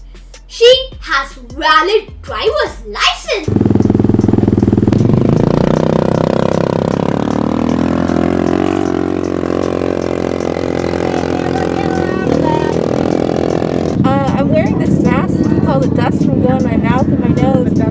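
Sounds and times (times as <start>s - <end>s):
vehicle engine running: 3.4s - 17.9s.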